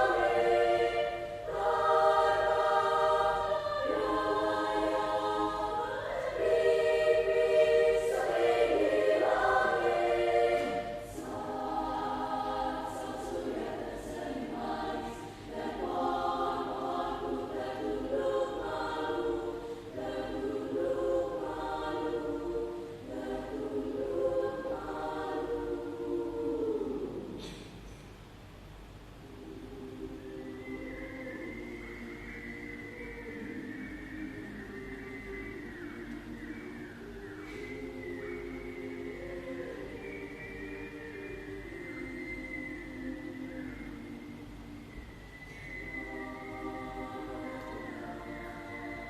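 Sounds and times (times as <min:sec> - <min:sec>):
school choir singing: 0:00.0 - 0:27.6, 0:29.3 - 0:49.0.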